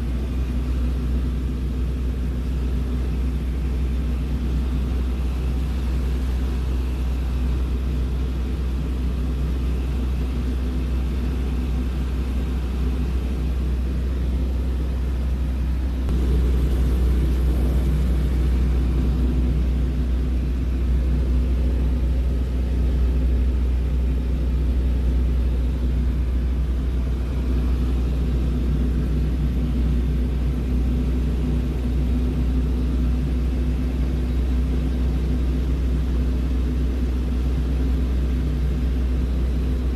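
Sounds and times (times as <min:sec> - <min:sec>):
airplane engine and propeller droning: 0:00.0 - 0:39.9.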